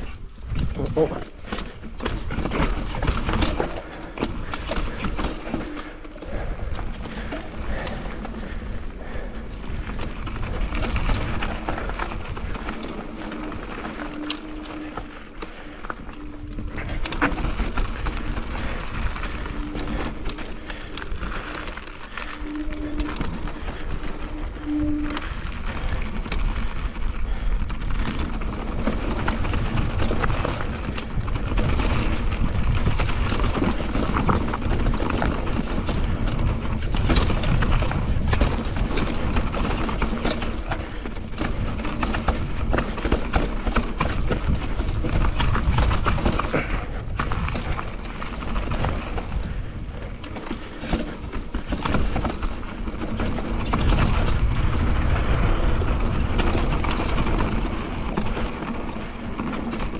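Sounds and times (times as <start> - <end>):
bike rattling over rough trail: 0.0 - 59.9
low wind rumble on microphone: 0.0 - 59.9.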